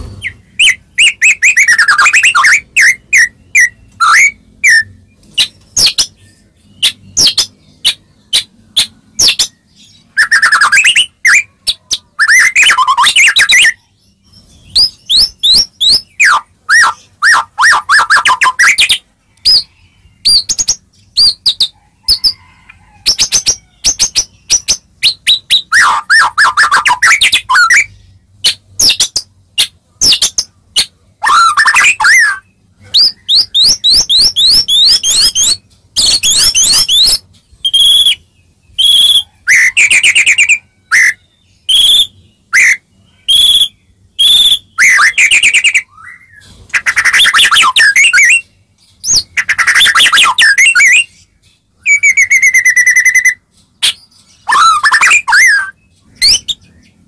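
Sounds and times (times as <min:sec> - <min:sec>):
songbird singing loudly: 0:00.0 - 0:57.0.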